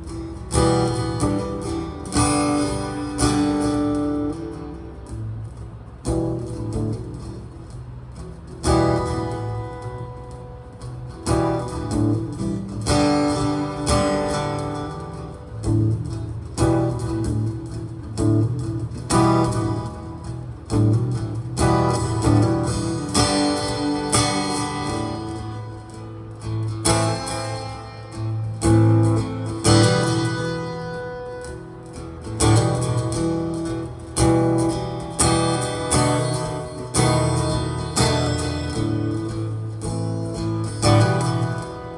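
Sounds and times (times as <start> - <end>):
acoustic guitar strummed chords: 0.0 - 41.9.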